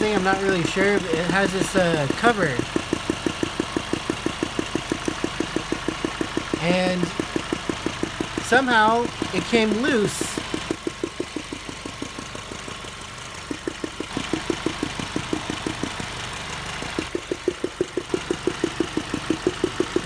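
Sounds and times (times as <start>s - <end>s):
car engine running: 0.0s - 20.0s
rhythmic knock-like tapping: 0.0s - 20.0s.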